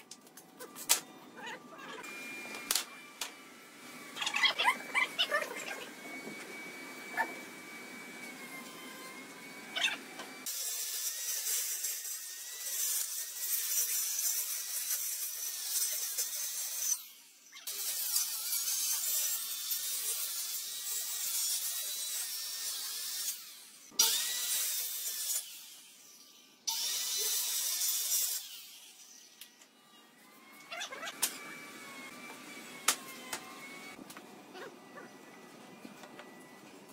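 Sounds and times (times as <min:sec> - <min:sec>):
circular saw cutting wood: 0:00.6 - 0:36.6.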